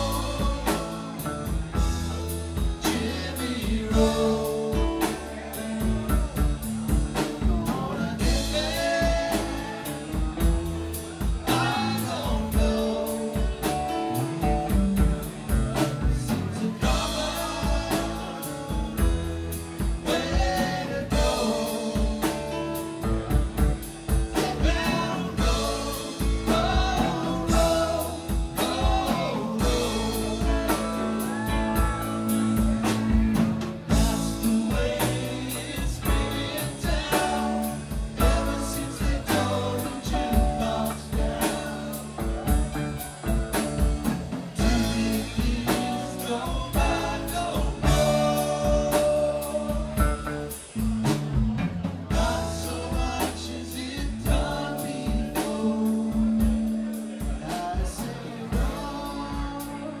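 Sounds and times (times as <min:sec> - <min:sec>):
man singing lead vocal: 0:00.0 - 0:50.9, 0:52.1 - 1:00.0
drum kit: 0:00.0 - 1:00.0
electric guitars: 0:00.0 - 1:00.0
keyboards: 0:00.0 - 1:00.0.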